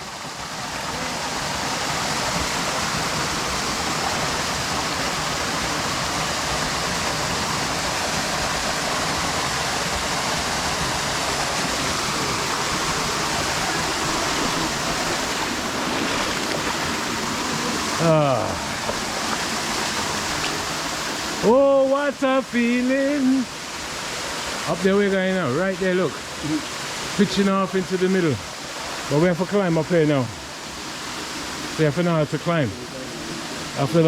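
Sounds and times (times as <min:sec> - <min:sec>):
rushing river and waterfall: 0:00.0 - 0:34.0.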